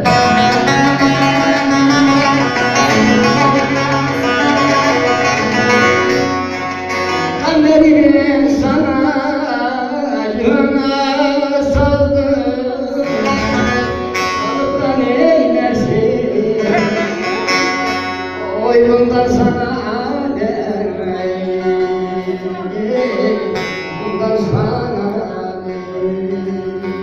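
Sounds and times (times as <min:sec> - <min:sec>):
long-necked lute playing: 0:00.0 - 0:10.9, 0:11.7 - 0:27.0
person singing: 0:00.0 - 0:27.0.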